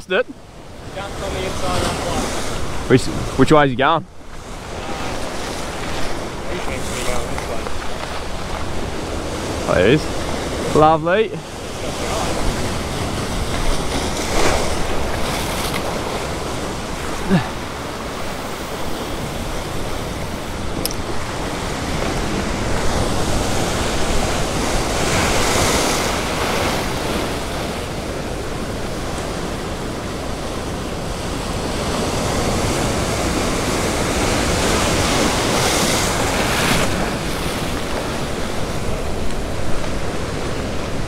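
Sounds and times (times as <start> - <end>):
ocean surf breaking over rocks: 0.0 - 41.0.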